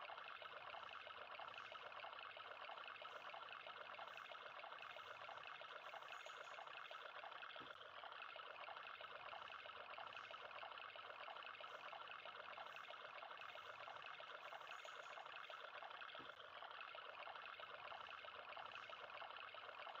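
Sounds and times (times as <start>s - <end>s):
water trickling into a puddle: 0.0s - 20.0s.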